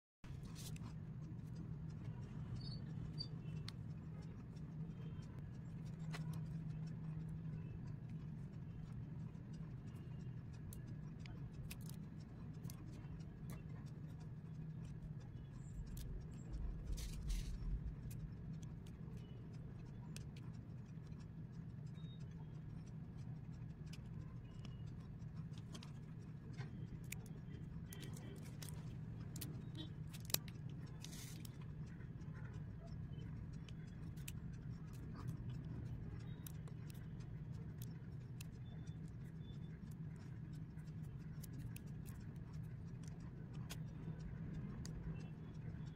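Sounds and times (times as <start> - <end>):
low steady hum: 0.2 - 45.9.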